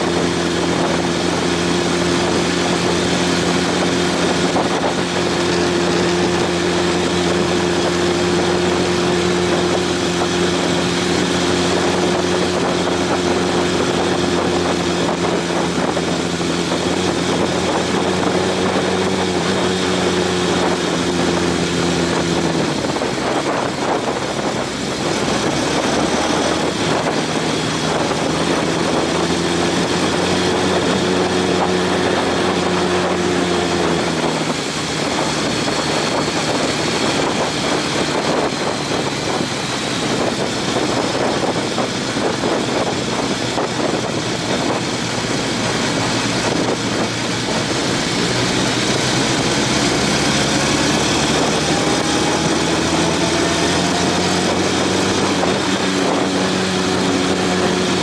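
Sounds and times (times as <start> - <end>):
motorcycle engine running: 0.0 - 58.0
wind rushing: 0.0 - 58.0.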